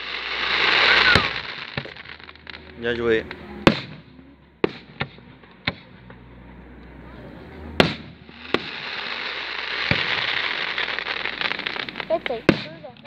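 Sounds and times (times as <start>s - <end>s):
fireworks bangs: 0.0s - 6.0s, 7.6s - 13.0s.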